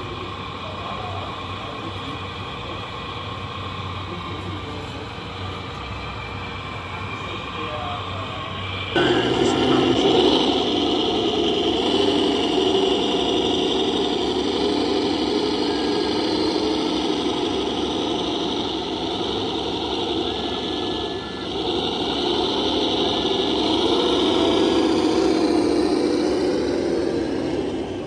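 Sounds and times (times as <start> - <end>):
model machine mechanical whir: 0.0 - 28.0.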